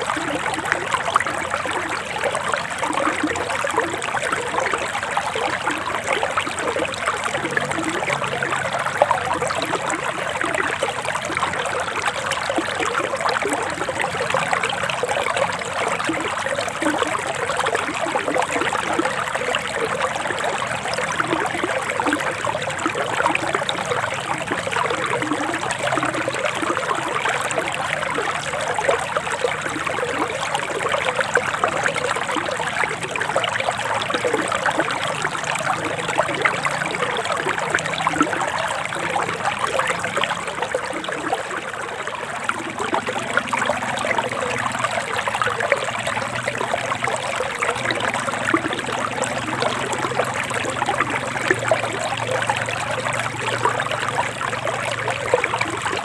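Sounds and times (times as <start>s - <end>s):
forest stream flowing over rocks: 0.0s - 56.0s.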